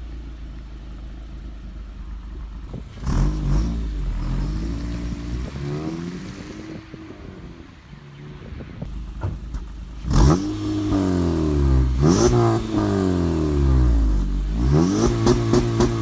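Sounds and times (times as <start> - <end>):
car engine revving: 2.3 - 16.0.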